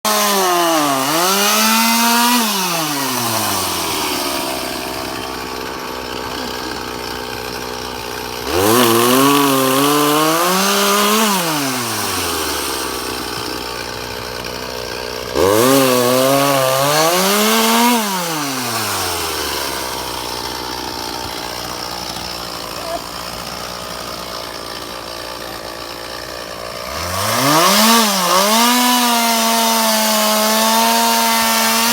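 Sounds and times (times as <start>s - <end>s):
chainsaw cutting and idling: 0.0s - 31.9s.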